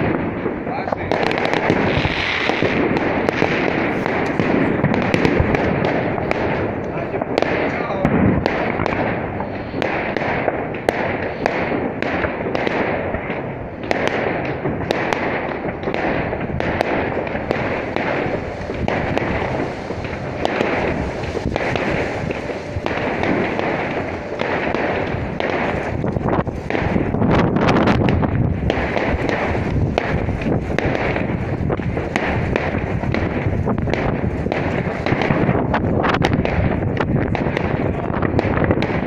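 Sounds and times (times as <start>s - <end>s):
fireworks bangs: 0.0s - 39.0s
fireworks crackling pops: 0.0s - 39.0s.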